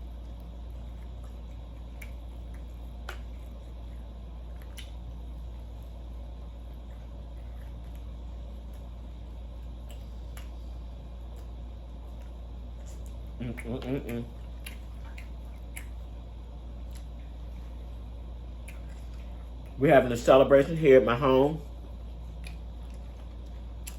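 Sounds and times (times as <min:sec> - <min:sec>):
chewing and mouth smacks: 0:00.0 - 0:19.8, 0:21.6 - 0:23.9
steady low hum: 0:00.0 - 0:23.9.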